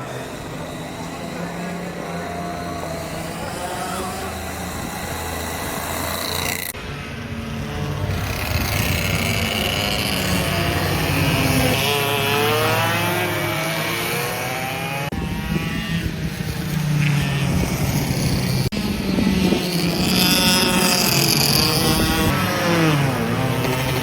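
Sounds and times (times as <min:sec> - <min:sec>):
go-kart engines passing: 0:00.0 - 0:24.0.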